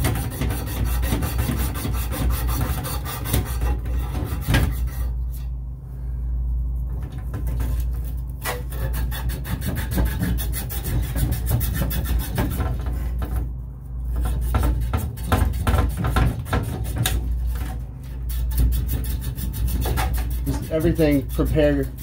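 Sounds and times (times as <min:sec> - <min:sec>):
sanding copper tubing by hand: 0:00.0 - 0:05.1, 0:08.7 - 0:13.3, 0:14.1 - 0:22.0
steady low hum: 0:00.0 - 0:22.0.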